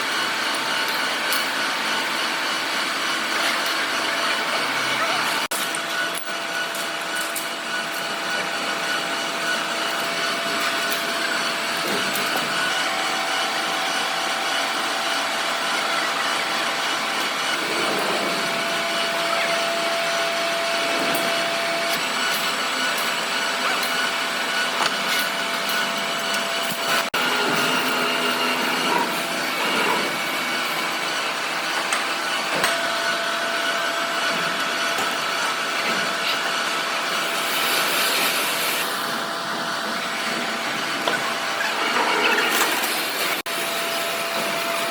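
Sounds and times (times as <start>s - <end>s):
machine running: 0.0s - 44.9s.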